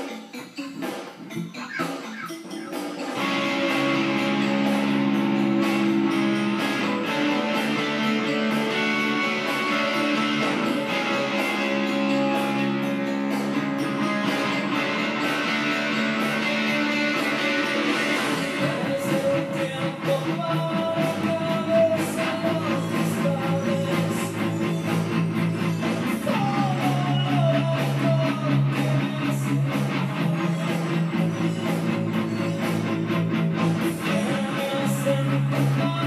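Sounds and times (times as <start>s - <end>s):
electric guitar playing: 0.8s - 36.0s.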